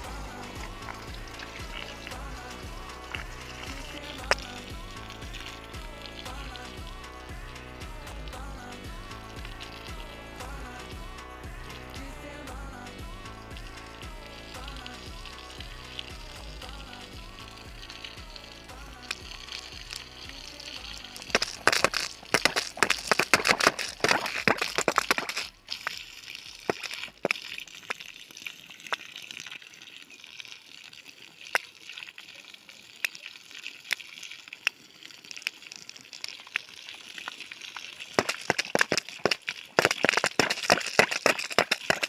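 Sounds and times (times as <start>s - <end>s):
water spraying onto plants: 0.0s - 42.0s.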